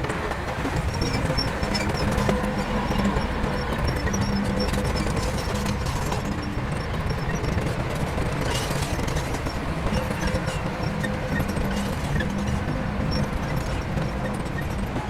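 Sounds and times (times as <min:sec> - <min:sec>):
diesel machinery rumbling: 0:00.0 - 0:15.0.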